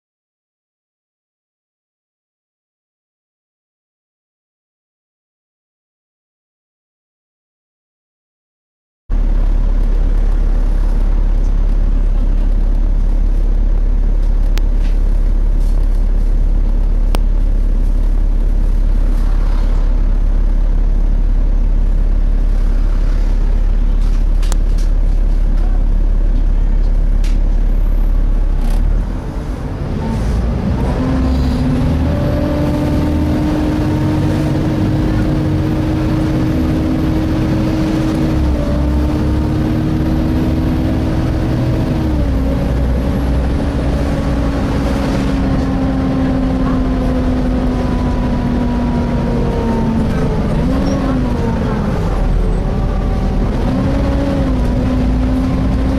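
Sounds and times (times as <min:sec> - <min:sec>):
bus engine drone: 0:09.1 - 0:55.9
engine cooling fan: 0:09.2 - 0:55.9.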